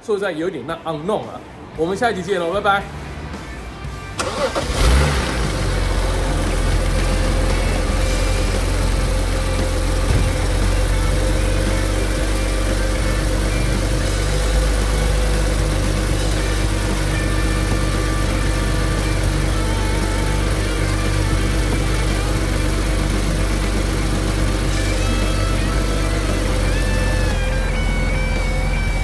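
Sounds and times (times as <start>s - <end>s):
car engine idling: 2.9s - 29.0s.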